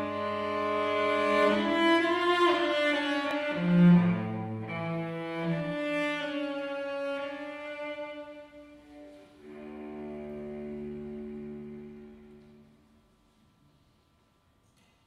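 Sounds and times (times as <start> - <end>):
cello: 0.0 - 14.0.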